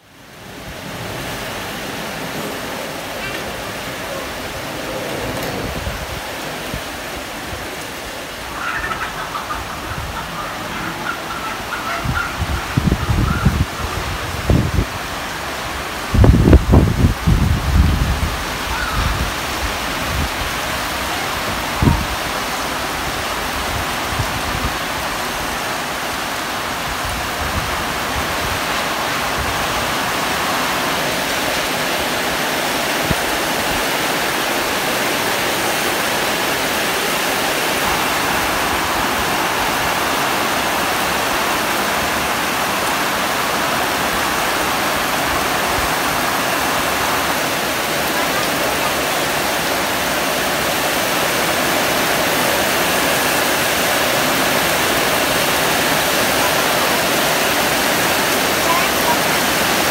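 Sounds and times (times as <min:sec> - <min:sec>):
heavy rain on metal roofs: 0:00.0 - 0:59.9.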